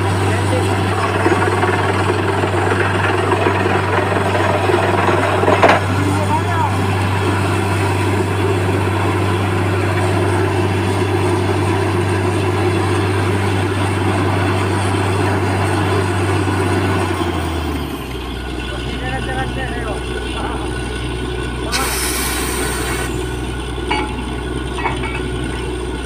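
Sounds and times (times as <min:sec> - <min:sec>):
drilling rig engine hum: 0:00.0 - 0:26.0.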